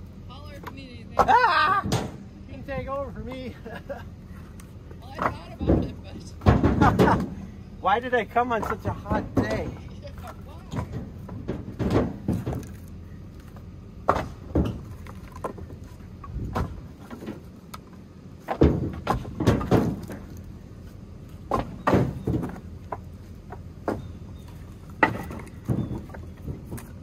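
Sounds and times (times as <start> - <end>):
firewood clunking and knocking: 0.3 - 27.0.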